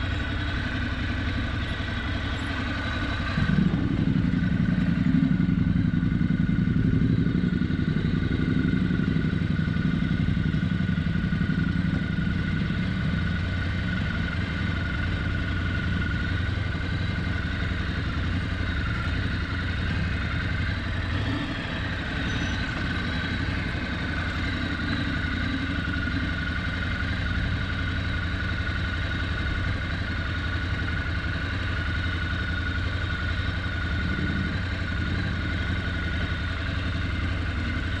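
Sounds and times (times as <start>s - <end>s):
off-road vehicle engine running: 0.0s - 38.0s.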